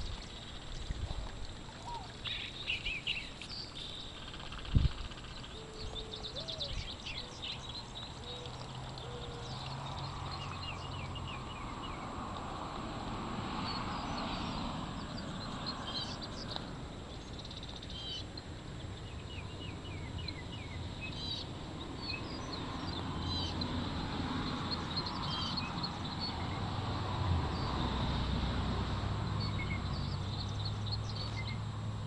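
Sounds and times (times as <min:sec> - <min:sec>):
small birds chirping: 0:00.0 - 0:12.1, 0:13.6 - 0:23.8, 0:24.5 - 0:26.6, 0:29.4 - 0:31.6.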